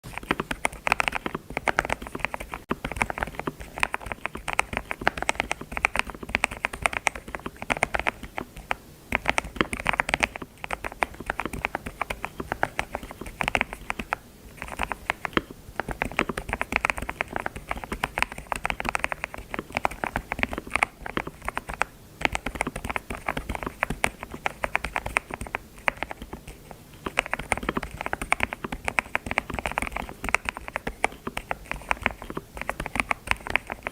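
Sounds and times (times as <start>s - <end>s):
keyboard key clicks: 0.1s - 33.9s.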